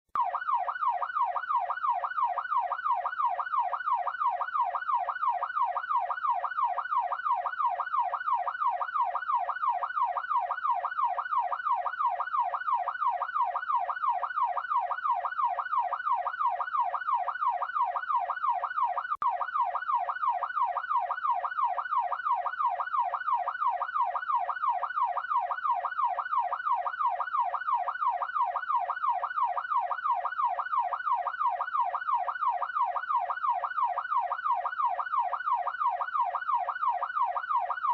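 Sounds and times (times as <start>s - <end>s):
police car siren: 0.2s - 37.9s.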